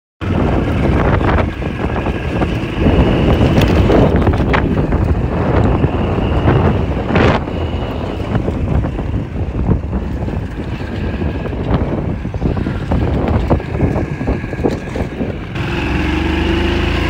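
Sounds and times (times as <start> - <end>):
motorcycle engine running: 0.2 - 17.0
wind rushing over microphone: 0.2 - 17.0.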